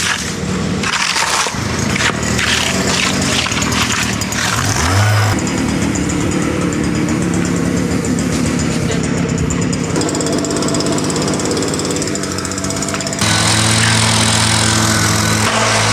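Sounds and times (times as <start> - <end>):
small gasoline engine running: 0.0 - 15.9.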